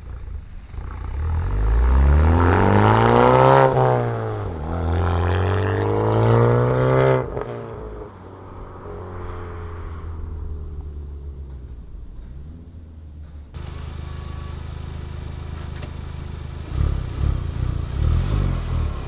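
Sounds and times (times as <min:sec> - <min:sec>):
car engine accelerating hard: 0:00.0 - 0:12.4, 0:13.3 - 0:19.0.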